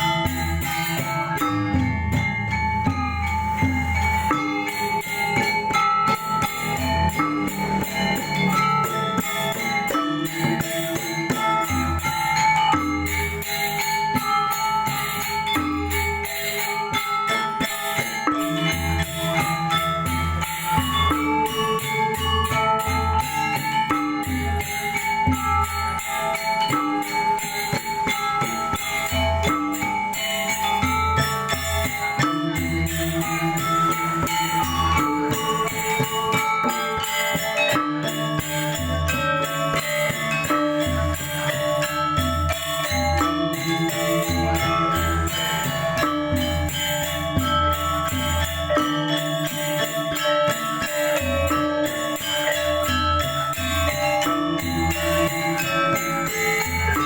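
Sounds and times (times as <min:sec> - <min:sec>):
jingling cymbal strokes: 0:00.0 - 0:57.0
metallophones ringing: 0:00.0 - 0:57.0.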